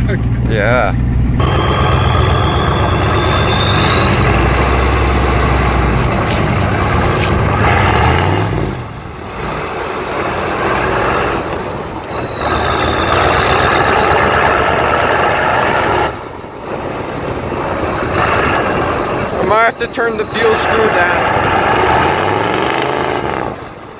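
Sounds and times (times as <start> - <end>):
diesel engine running: 0.0 - 23.9
turbocharger whistle: 1.4 - 23.9.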